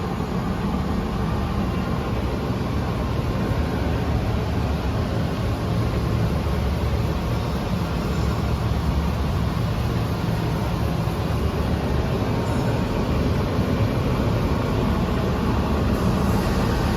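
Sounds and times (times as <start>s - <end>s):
lathe mechanical drone: 0.0s - 16.9s.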